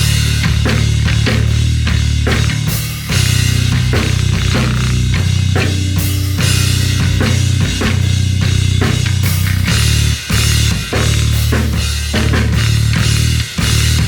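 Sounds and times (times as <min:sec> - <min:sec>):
bass guitar notes: 0:00.0 - 0:14.0
kick and snare drums: 0:00.0 - 0:14.0.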